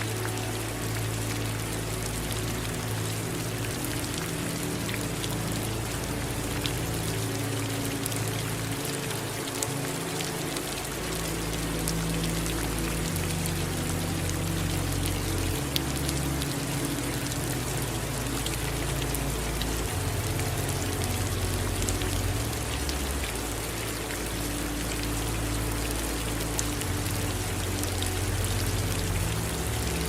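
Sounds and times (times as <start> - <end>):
low steady rumble: 0.0 - 30.0
rain drops ticking: 0.0 - 30.0.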